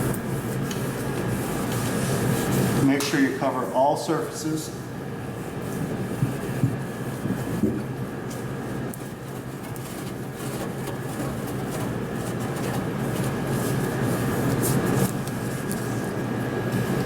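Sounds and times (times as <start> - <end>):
cloth wiping oven interior: 0.0 - 17.0
steady mechanical hum: 0.0 - 17.0.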